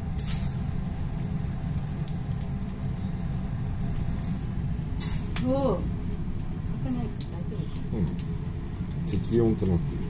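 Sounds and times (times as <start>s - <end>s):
chicken sizzling in frying oil: 0.0s - 10.0s.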